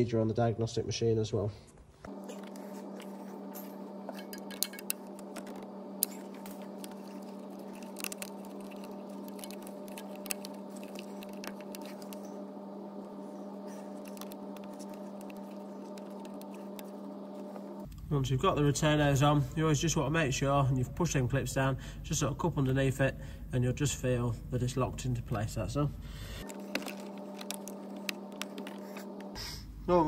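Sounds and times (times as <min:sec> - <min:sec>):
steady hum: 0:02.0 - 0:30.0.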